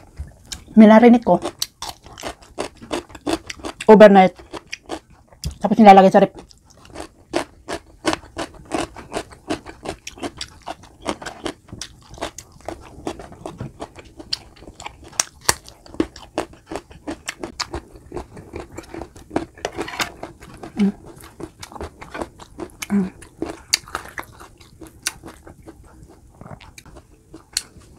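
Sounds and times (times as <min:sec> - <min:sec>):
chewing crunchy food: 0:00.0 - 0:27.9.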